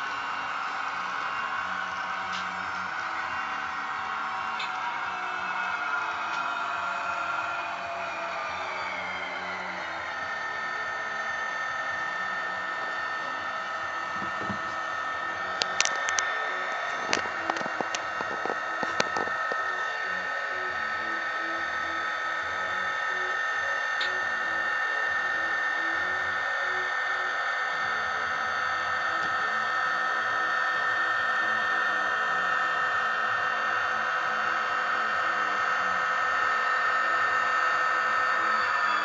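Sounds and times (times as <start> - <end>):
model locomotive engine sound: 0.0 - 39.0.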